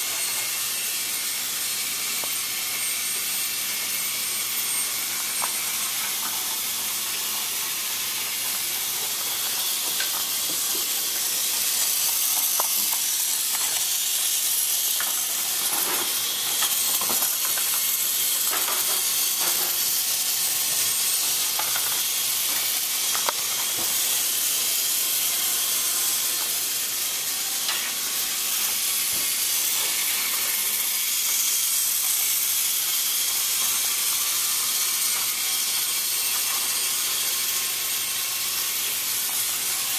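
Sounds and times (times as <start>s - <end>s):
toy train motor hiss: 0.0s - 39.9s.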